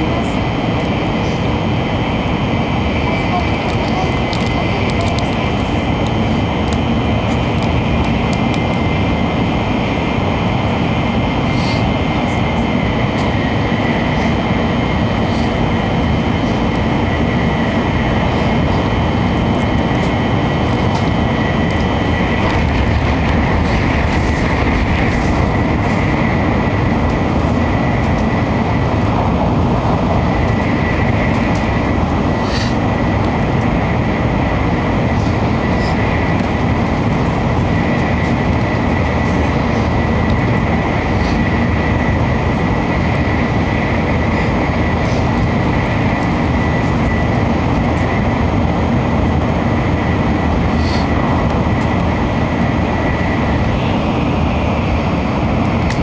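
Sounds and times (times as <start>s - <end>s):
train cabin rumble: 0.0s - 56.0s
high whine: 5.4s - 56.0s.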